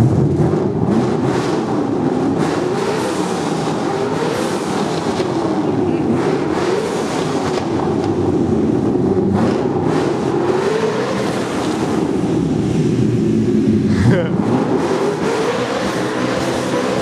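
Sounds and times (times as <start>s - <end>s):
car engine revving during burnout: 0.0s - 17.0s.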